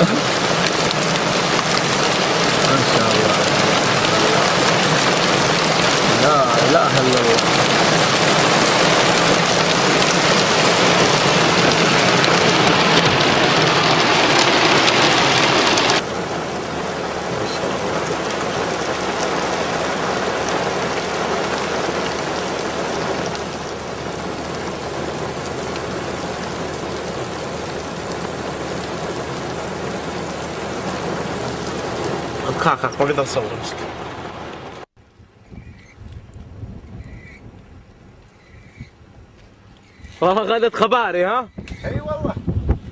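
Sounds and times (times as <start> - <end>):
heavy rain on sandy ground: 0.0 - 42.9.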